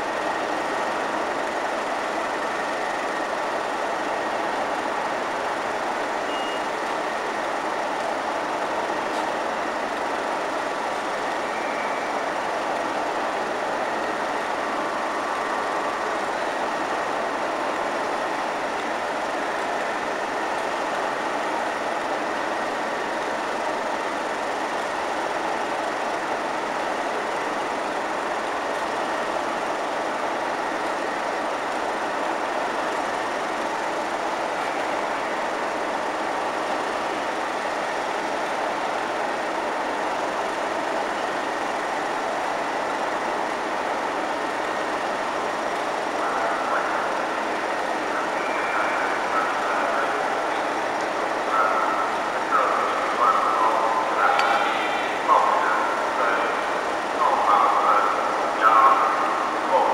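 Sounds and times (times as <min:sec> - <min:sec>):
diesel locomotive engines running: 0:00.0 - 0:59.9.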